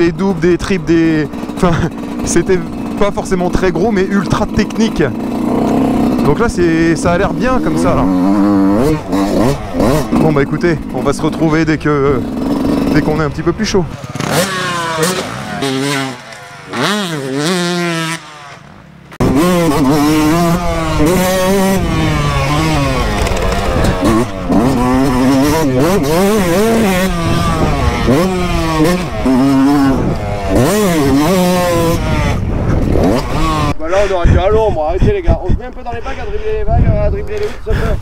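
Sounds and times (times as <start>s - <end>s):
motocross bike engine revving: 0.0s - 34.7s.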